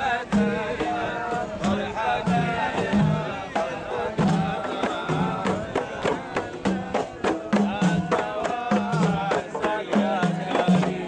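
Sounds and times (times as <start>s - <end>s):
group of voices chanting: 0.0s - 11.0s
hand drums beating: 0.0s - 11.0s.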